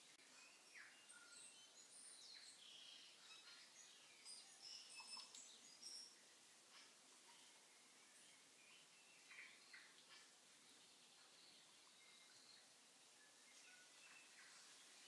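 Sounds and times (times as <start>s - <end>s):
faint high chirps and squeaks: 0.0s - 15.0s.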